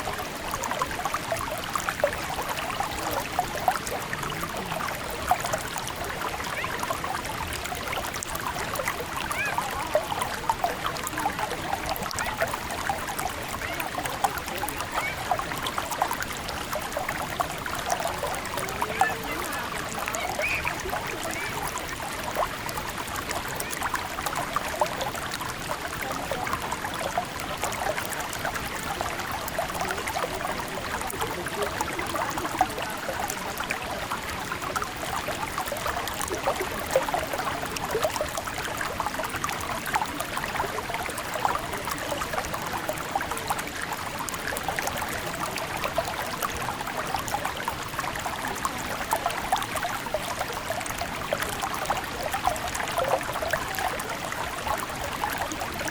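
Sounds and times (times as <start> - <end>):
river water babbling over stones: 0.0 - 55.9.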